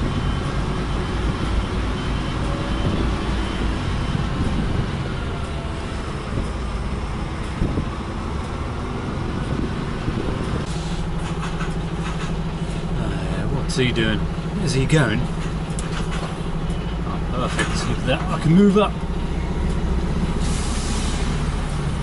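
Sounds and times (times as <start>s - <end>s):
truck diesel engine rumbling: 0.0s - 22.0s.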